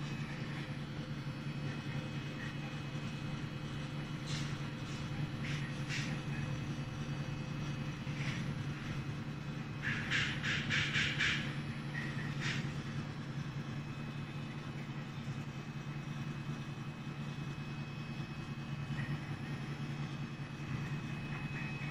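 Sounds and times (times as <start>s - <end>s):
machine humming: 0.0s - 21.9s.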